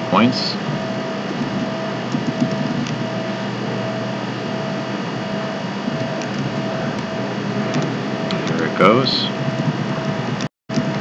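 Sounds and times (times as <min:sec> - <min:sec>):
background hum and hiss: 0:00.0 - 0:11.0
faint pulsing tone: 0:00.0 - 0:11.0.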